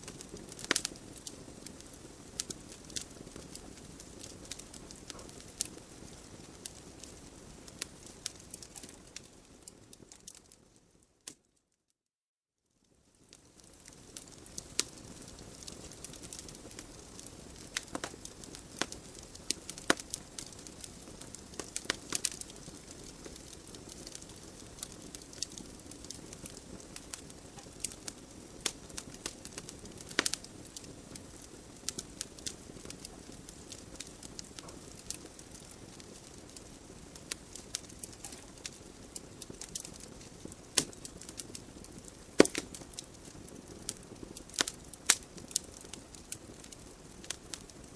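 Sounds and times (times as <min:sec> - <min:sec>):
hiss of flames: 0:00.0 - 0:10.2, 0:13.1 - 0:47.9
fire crackling and popping: 0:00.0 - 0:11.5, 0:12.9 - 0:47.9.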